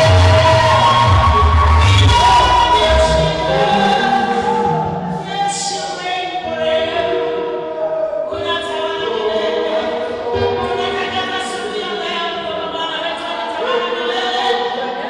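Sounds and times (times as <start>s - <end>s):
gospel choir singing: 0.0s - 15.0s.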